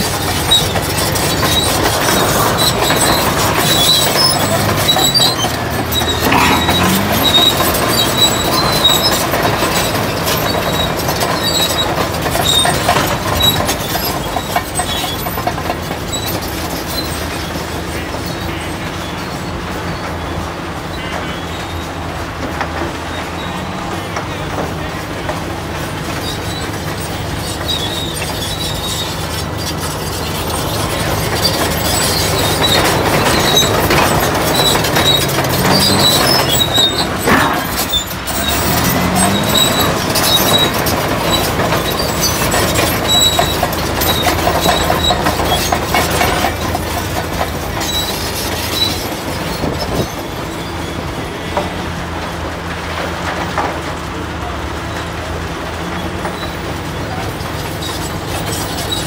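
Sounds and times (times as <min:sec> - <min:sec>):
diesel engine running under load: 0:00.0 - 0:59.0
steel tracks clanking and squealing: 0:00.0 - 0:59.0.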